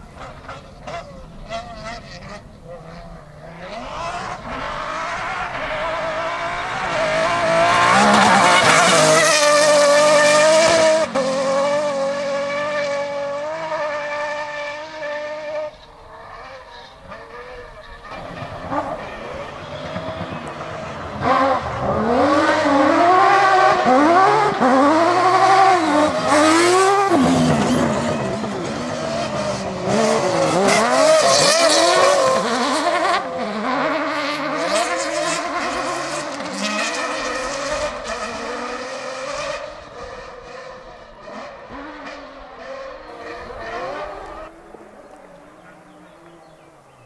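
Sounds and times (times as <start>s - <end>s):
distant car approaching: 0.0s - 47.0s
rally car engines revving: 0.0s - 47.0s.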